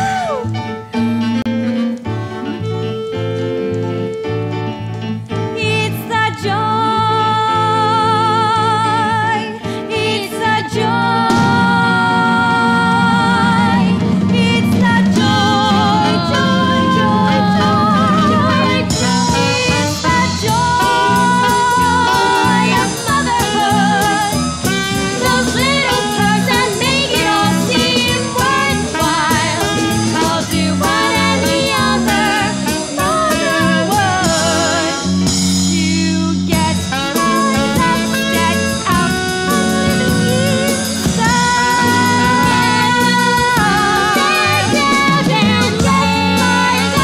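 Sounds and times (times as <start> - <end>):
swing-style show tune: 0.0 - 47.0
person singing: 6.4 - 47.0.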